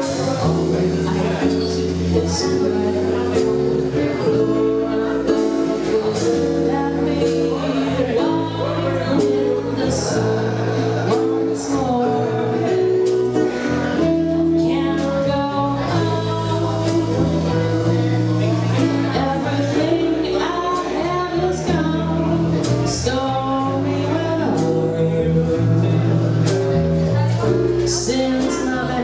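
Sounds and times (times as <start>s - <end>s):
jazz band playing: 0.0s - 29.0s
woman singing: 0.0s - 29.0s.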